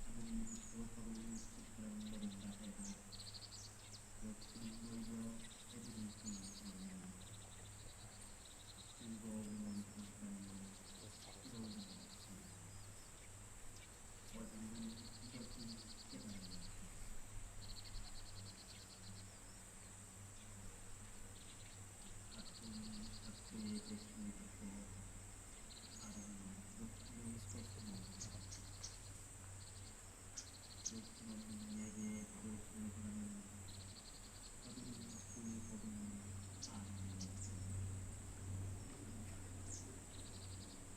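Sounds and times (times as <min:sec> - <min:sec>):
faint low voice chanting: 0:00.0 - 0:13.4, 0:14.2 - 0:29.9, 0:30.5 - 0:40.9
crickets chirping: 0:00.0 - 0:40.9
high insect drone: 0:00.0 - 0:40.9.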